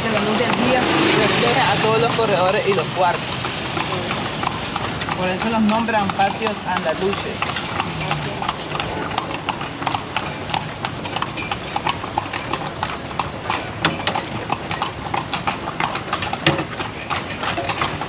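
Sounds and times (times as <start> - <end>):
hooves clip-clopping on pavement: 0.0 - 18.0.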